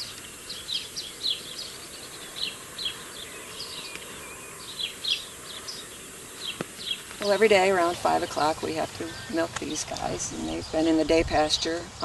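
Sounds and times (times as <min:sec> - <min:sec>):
small birds chirping: 0:00.0 - 0:12.0
steady outdoor hiss: 0:00.0 - 0:12.0.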